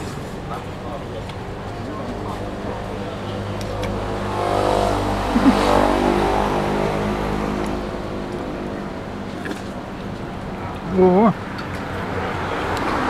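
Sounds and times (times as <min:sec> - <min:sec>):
low traffic hum: 0:00.0 - 0:13.0
vehicle engine passing: 0:00.0 - 0:13.0.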